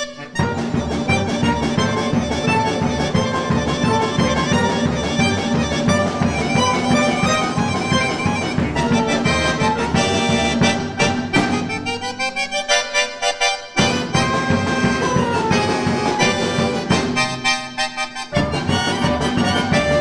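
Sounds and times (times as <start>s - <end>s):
button accordion: 0.0s - 20.0s
plucked strings: 0.0s - 20.0s.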